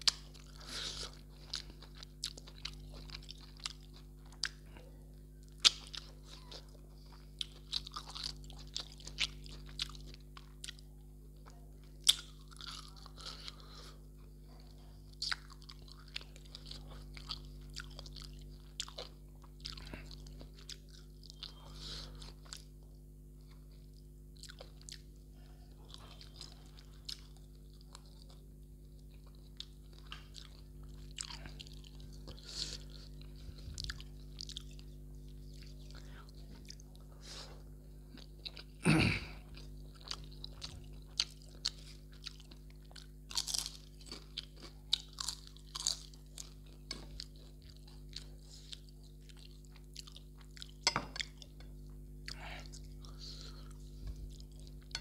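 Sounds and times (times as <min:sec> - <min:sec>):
man chewing meat off bone: 0:00.0 - 0:04.8, 0:05.5 - 0:10.9, 0:11.8 - 0:25.2, 0:25.8 - 0:55.0
low steady hum: 0:00.0 - 0:55.0.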